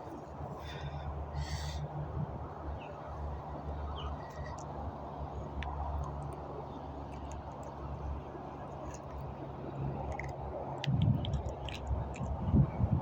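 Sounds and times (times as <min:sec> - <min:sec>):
distant highway traffic rumble: 0:00.0 - 0:13.0.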